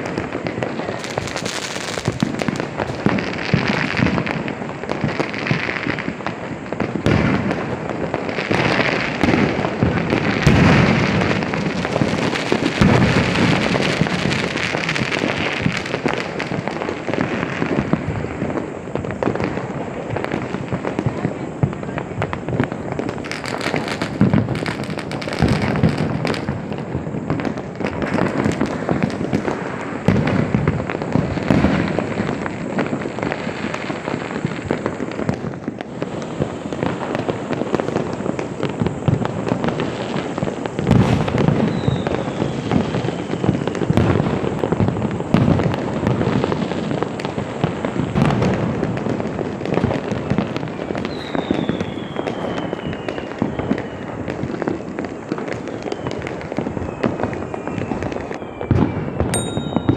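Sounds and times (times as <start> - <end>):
falling firework whistle: 0.0 - 59.9
firecrackers crackling: 0.0 - 59.9
fireworks bangs: 0.0 - 59.9.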